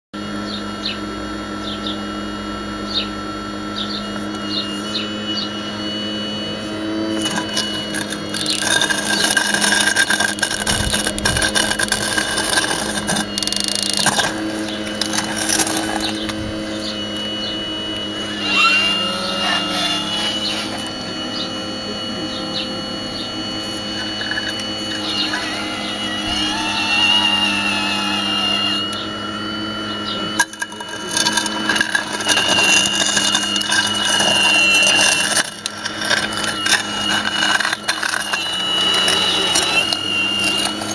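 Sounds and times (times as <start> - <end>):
model excavator hydraulics humming: 0.2 - 40.9
bucket working broken concrete: 3.9 - 40.9.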